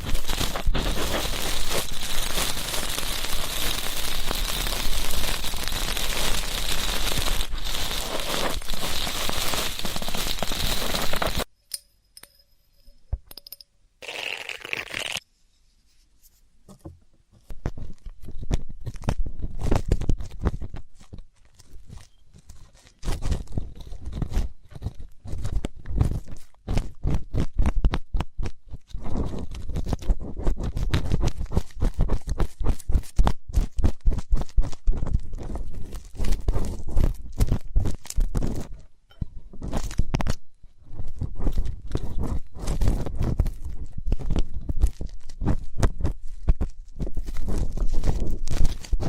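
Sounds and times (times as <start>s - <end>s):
ear pick scraping and crackling: 0.0s - 11.5s, 16.8s - 49.0s.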